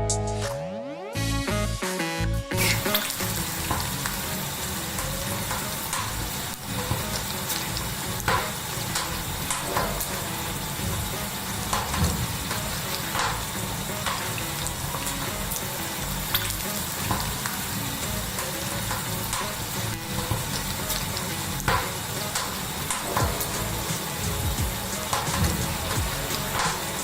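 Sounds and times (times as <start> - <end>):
eggs sizzling in oil: 2.6 - 27.0.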